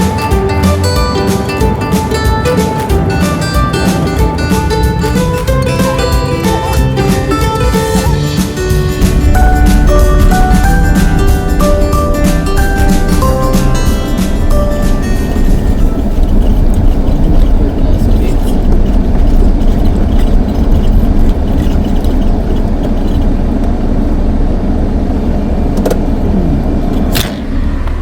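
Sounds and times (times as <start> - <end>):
van road noise: 0.0 - 28.0.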